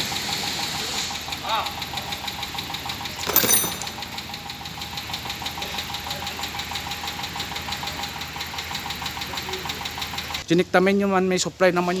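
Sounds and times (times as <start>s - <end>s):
engine idling with ticking: 0.0s - 11.0s.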